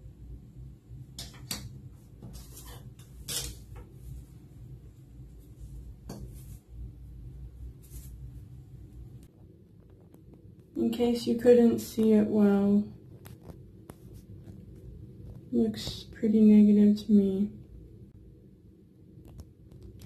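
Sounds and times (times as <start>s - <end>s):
steady low hum: 0.0s - 19.8s.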